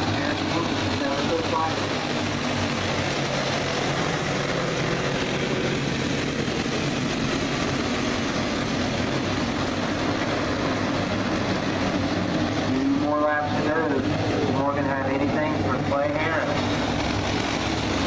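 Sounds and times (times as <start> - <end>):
kart engines droning: 0.0 - 18.0.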